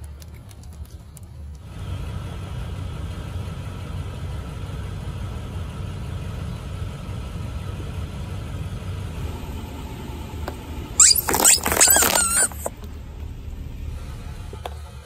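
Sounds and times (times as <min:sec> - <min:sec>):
car engine idling: 0:01.6 - 0:15.0.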